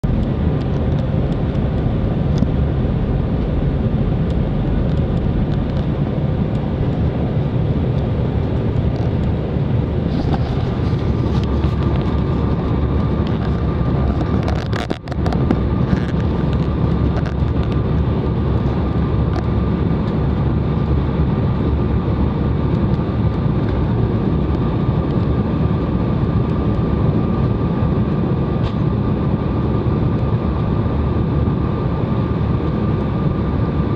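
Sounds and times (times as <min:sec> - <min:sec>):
airliner engine and airflow roar: 0:00.0 - 0:33.9
faint steady whine: 0:00.0 - 0:33.9.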